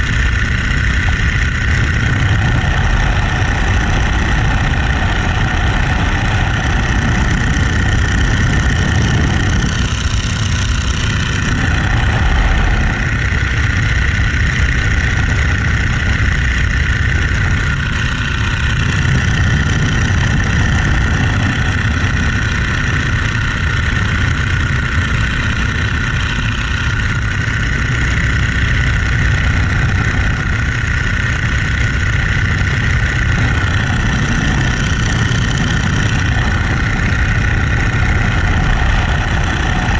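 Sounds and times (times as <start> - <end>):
biplane engine and propeller: 0.0 - 39.9.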